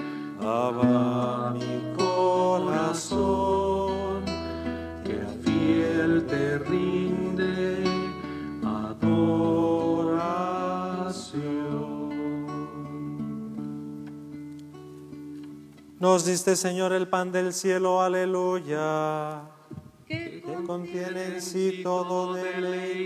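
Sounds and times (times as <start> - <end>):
hymn singing: 0.0 - 14.2, 16.0 - 23.0
acoustic guitar: 0.0 - 23.0.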